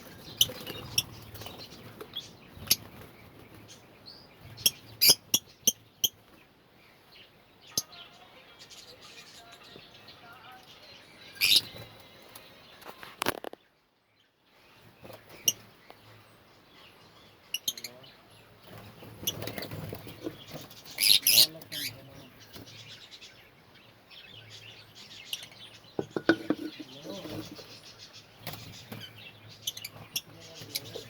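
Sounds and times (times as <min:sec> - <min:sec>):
lovebirds chirping: 0:00.0 - 0:31.0.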